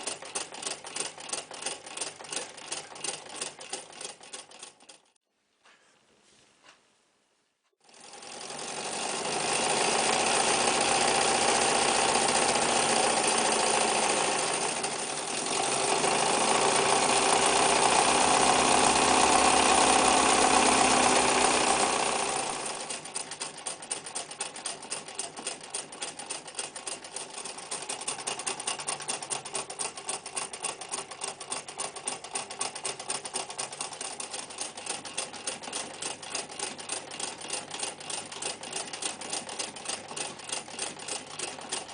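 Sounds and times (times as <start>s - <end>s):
electric sewing machine running: 0.0s - 5.1s, 7.8s - 41.9s.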